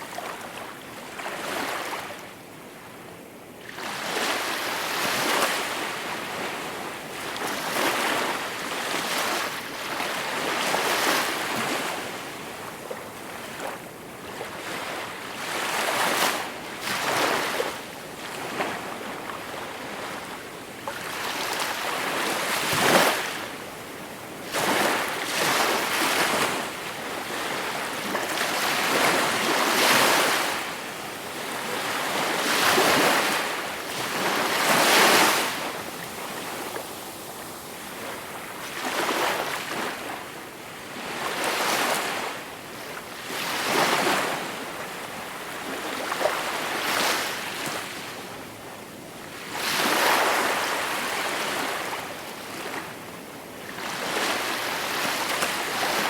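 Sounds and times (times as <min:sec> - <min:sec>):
gentle sea waves on shore: 0:00.0 - 0:56.0.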